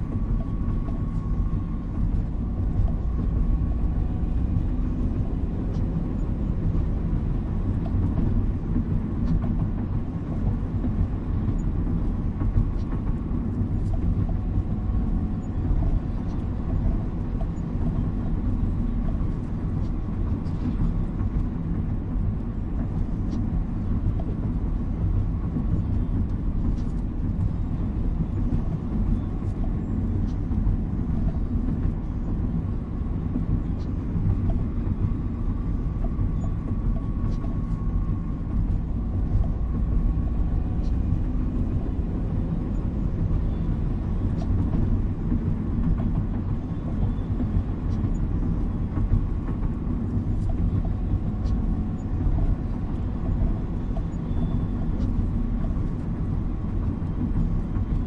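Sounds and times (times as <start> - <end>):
car driving on wet street: 0.0 - 58.0.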